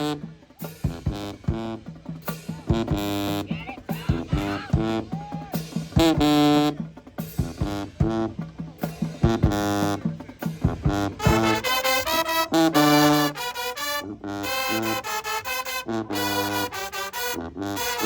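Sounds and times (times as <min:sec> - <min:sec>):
marching band brass playing: 0:00.0 - 0:18.0.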